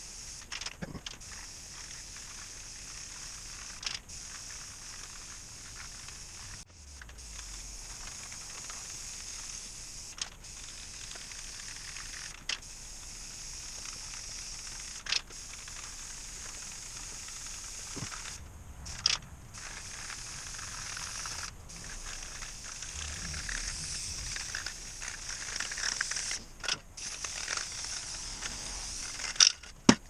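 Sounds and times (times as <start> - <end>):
spray paint can hissing: 0.0 - 30.0.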